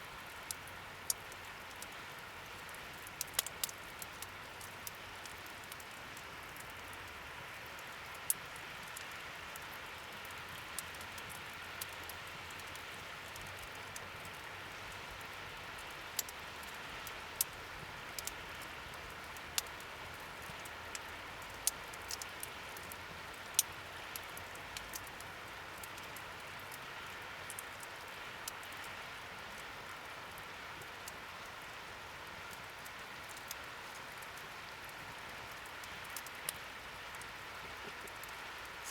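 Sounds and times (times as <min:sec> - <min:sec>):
campfire hissing and crackling: 0:00.0 - 0:38.9.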